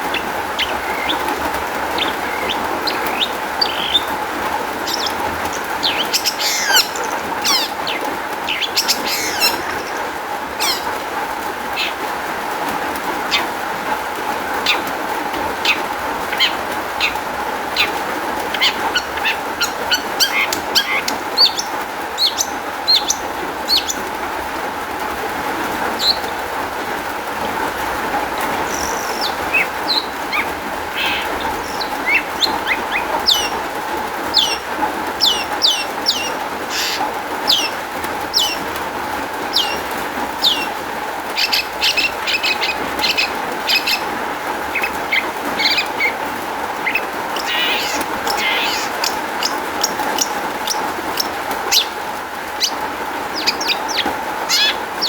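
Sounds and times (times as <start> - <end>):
bird singing fast chatter: 0.0 - 12.2, 14.4 - 24.1, 28.3 - 38.7, 39.4 - 55.0
steady background hiss: 0.0 - 55.0.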